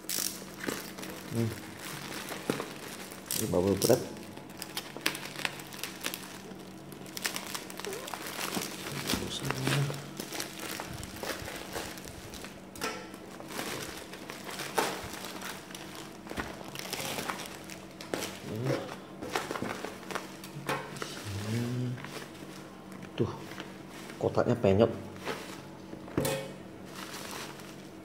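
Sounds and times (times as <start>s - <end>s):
bubble wrap crinkling: 0.0s - 24.4s, 25.0s - 26.1s, 26.8s - 28.0s.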